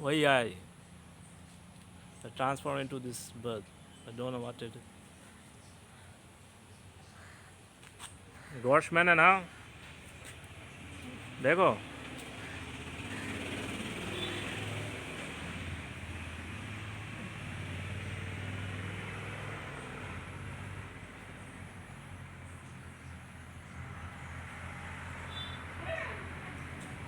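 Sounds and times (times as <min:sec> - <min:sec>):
vehicle traffic rumble: 0:00.0 - 0:27.0.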